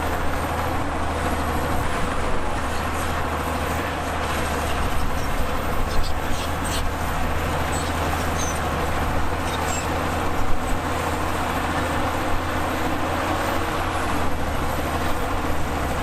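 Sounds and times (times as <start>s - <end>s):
heavy diesel machinery drone: 0.0s - 16.0s.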